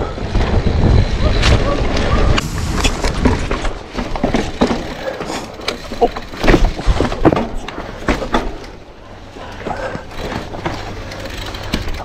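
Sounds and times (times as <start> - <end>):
mountain bike clattering: 0.0 - 12.0.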